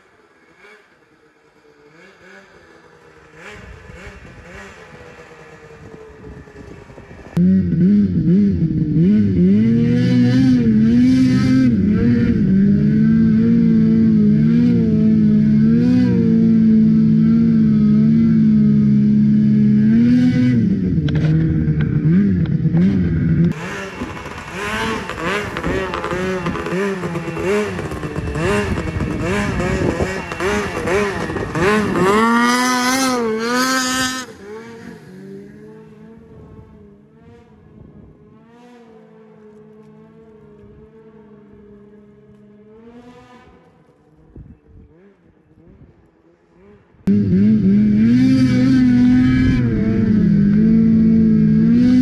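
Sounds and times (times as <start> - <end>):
snowmobile engine revving: 0.0 - 52.0.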